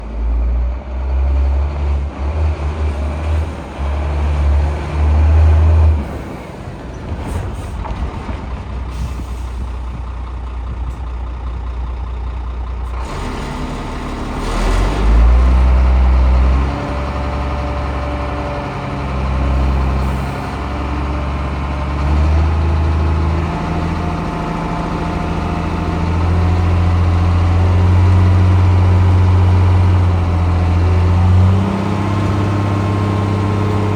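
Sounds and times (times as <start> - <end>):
diesel truck engine droning: 0.0 - 33.9.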